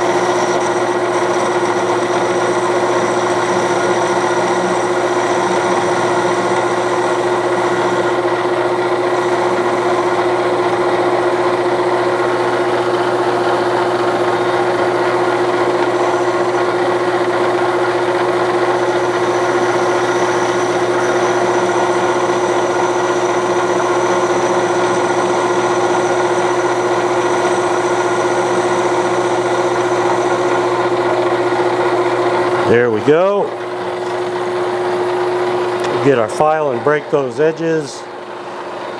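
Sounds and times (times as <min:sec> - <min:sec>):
metal lathe running: 0:00.0 - 0:38.9
steady whine: 0:00.0 - 0:38.9.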